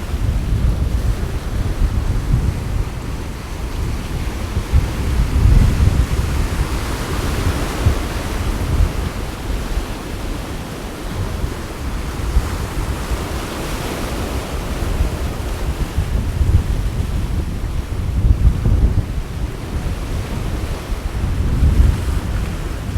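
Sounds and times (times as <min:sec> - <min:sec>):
sea waves washing on shore: 0:00.0 - 0:22.9
wind rumbling on microphone: 0:00.0 - 0:22.9.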